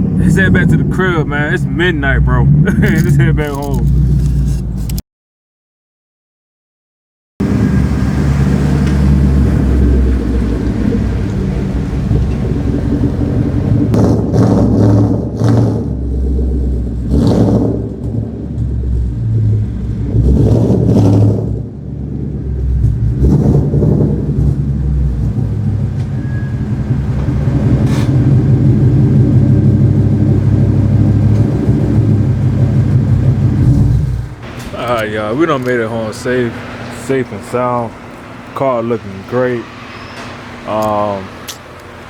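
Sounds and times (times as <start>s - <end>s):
car engine while driving: 0.0s - 5.0s, 7.4s - 42.0s
road noise: 0.0s - 5.0s, 7.4s - 42.0s.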